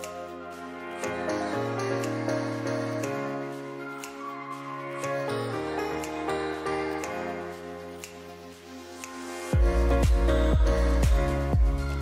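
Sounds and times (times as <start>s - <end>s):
background music with sustained chords: 0.0s - 12.0s.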